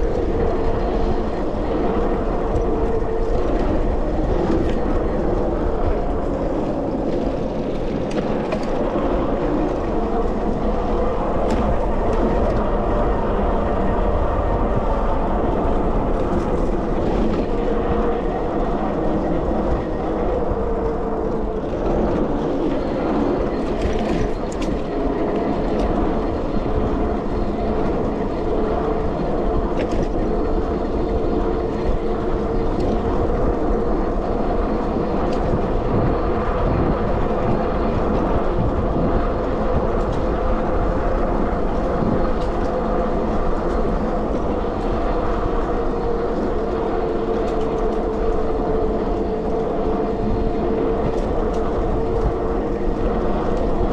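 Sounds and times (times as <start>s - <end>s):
electric bike motor and tyre hum: 0.0s - 53.9s
road rumble: 0.0s - 53.9s
wind on the microphone: 0.0s - 53.9s.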